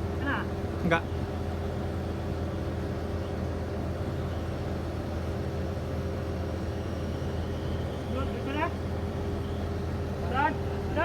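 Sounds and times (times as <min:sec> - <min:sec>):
engine-room machinery drone: 0:00.0 - 0:11.0.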